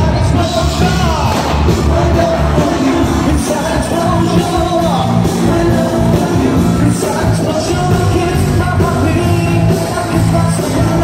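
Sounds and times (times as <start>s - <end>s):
live band with singers: 0.0s - 11.0s.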